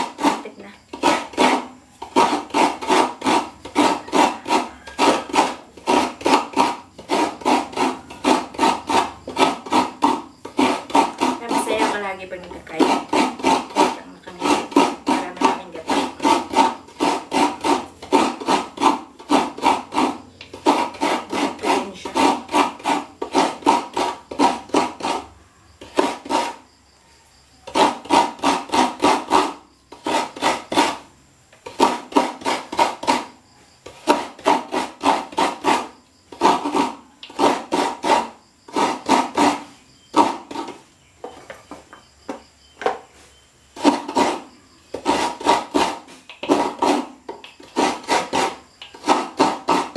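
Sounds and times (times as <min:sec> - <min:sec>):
coconut rasping on grater: 0:00.0 - 0:26.7, 0:27.6 - 0:40.9, 0:43.8 - 0:49.9.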